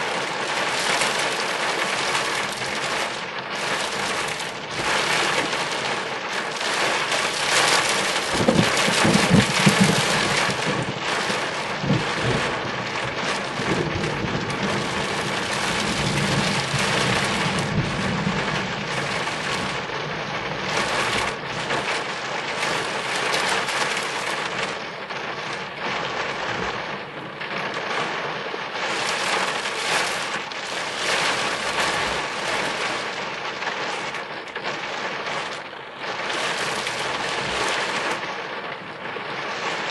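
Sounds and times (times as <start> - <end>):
heavy rain on car roof: 0.0 - 39.9
rolling thunder: 2.7 - 39.9.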